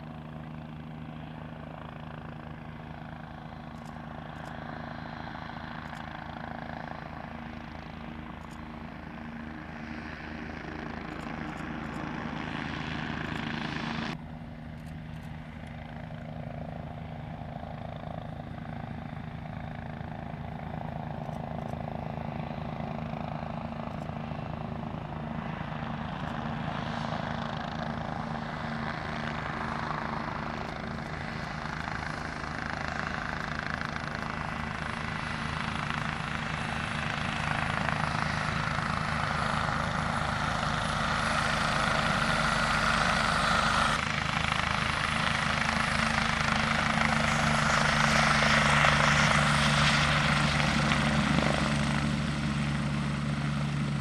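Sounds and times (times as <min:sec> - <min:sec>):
helicopter rotor beat: 0:00.0 - 0:54.0
turbine whine: 0:01.1 - 0:16.4, 0:17.4 - 0:54.0.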